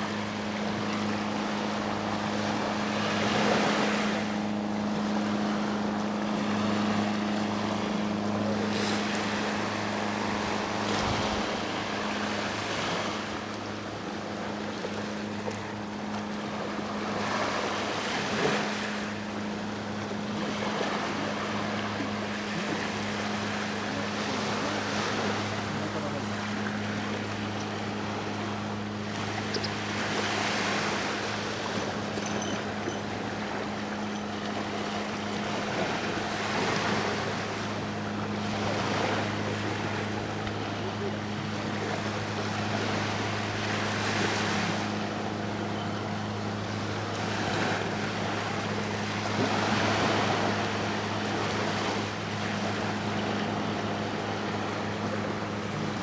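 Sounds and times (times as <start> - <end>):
boat engine humming: 0.0 - 56.0
sea waves washing ashore: 0.0 - 56.0.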